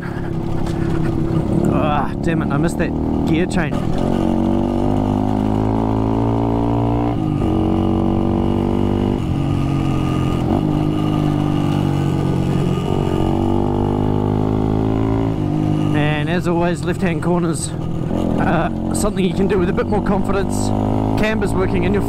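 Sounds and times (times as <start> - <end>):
motorcycle engine changing gear: 0.2 - 22.0.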